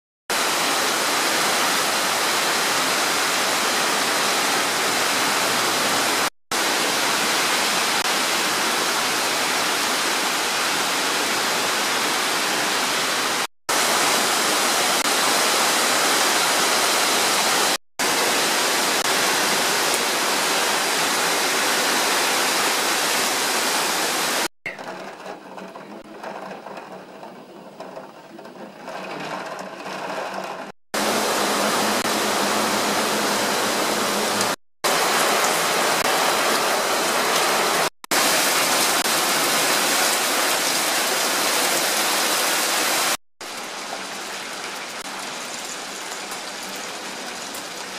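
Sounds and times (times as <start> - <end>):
heavy rain hissing: 0.3 - 24.5, 31.0 - 47.9.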